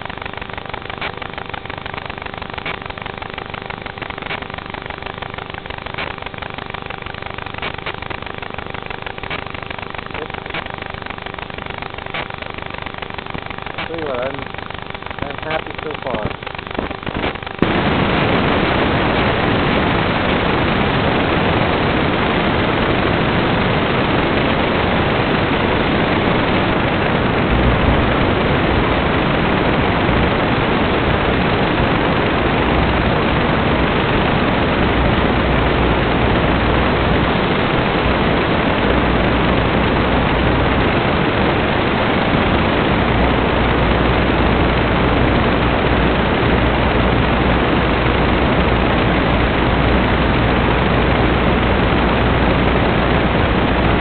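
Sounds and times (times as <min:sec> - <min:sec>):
low hum: 0:00.0 - 0:54.0
static hiss: 0:00.0 - 0:54.0.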